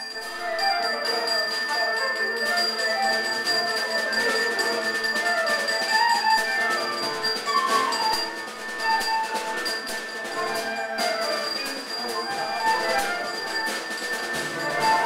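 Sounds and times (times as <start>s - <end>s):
drums with cymbal strokes: 0.0s - 15.0s
flute: 0.0s - 15.0s
piano: 0.0s - 15.0s.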